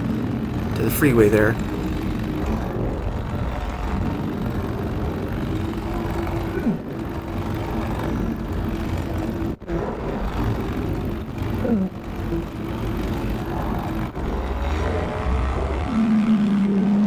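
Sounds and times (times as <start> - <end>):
paramotor motor hum: 0.0 - 16.4.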